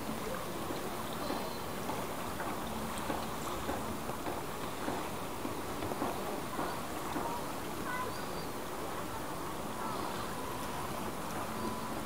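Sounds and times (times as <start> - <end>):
water lapping: 0.0 - 12.0
wind: 0.0 - 12.0.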